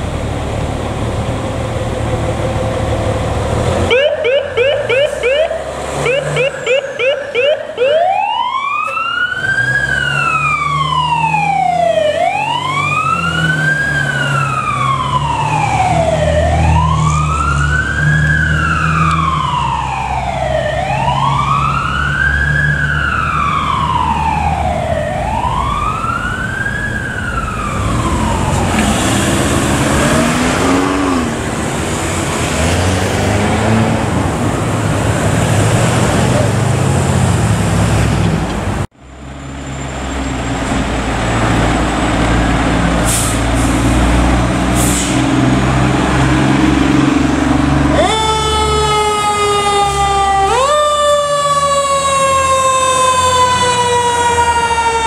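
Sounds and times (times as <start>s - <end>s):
traffic noise: 0.0s - 55.0s
truck engine hum: 0.0s - 55.0s
fire engine siren wailing: 1.5s - 37.9s, 40.8s - 55.0s.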